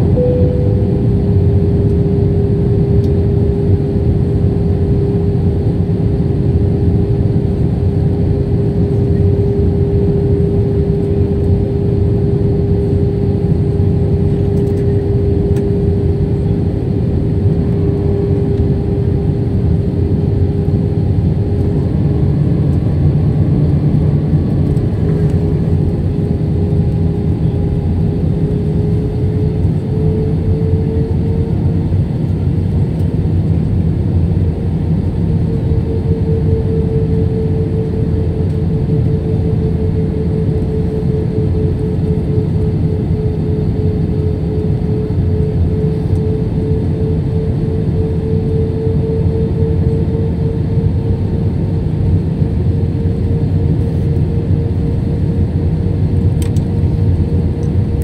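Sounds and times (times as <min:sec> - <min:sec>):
airliner cabin engine and airflow rush: 0:00.0 - 0:58.0
constant cabin hum: 0:00.0 - 0:58.0.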